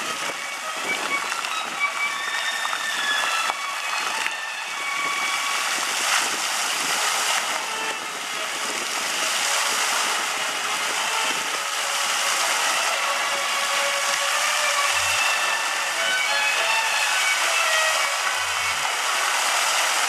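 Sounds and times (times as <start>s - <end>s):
fountain water splashing: 0.0s - 20.0s.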